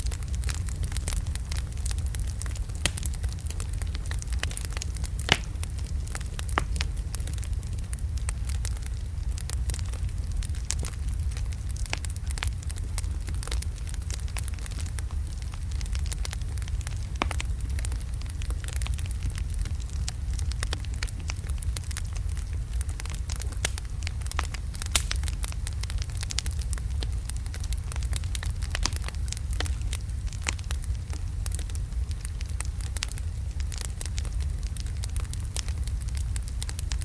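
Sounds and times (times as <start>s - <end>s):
burning logs crackling and popping: 0.0s - 37.0s
fire rumbling: 0.0s - 37.0s.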